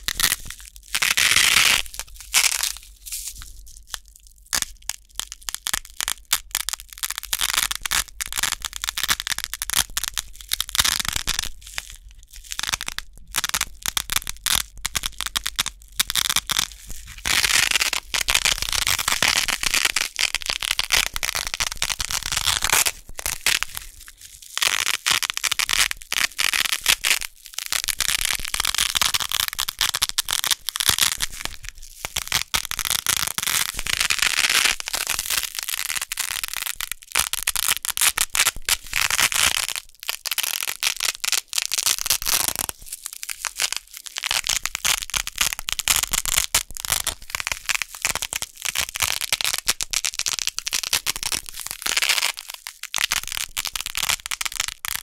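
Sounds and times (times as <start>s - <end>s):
velcro tape tearing: 0.0s - 11.9s, 12.5s - 55.0s.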